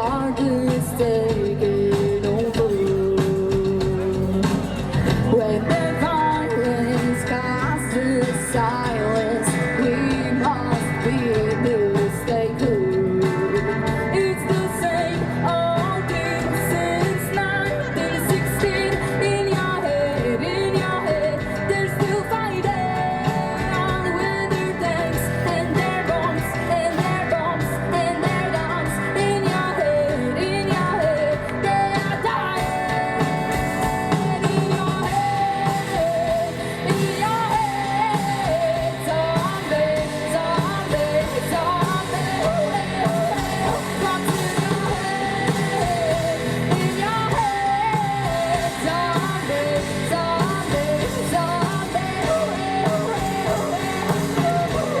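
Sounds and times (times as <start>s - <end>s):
bass guitar: 0.0s - 55.0s
drums: 0.0s - 55.0s
guitar: 0.0s - 55.0s
person singing: 0.0s - 55.0s.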